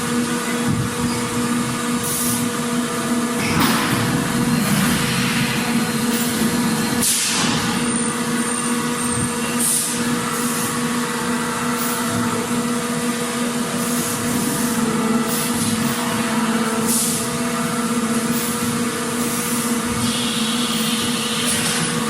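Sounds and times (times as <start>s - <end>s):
machinery hum and rumble: 0.0s - 22.0s.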